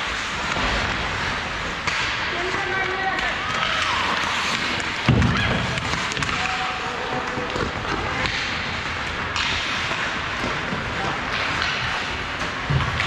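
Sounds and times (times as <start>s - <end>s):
ice rink ambience: 0.0s - 13.0s.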